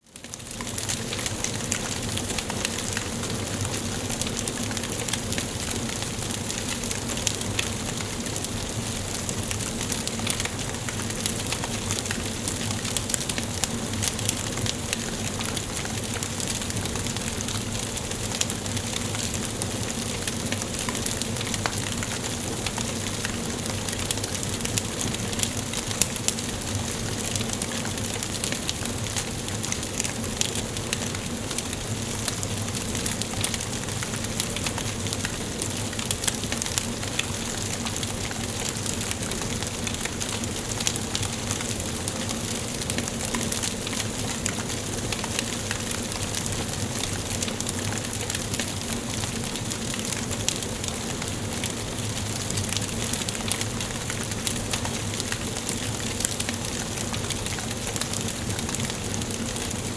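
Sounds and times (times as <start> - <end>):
wood fire crackling: 0.1 - 59.9.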